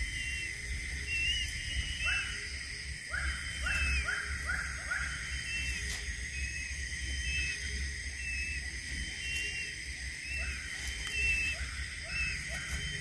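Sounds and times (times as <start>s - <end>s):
faint whistled notes: 0.0s - 13.0s
steady high hum: 0.0s - 13.0s.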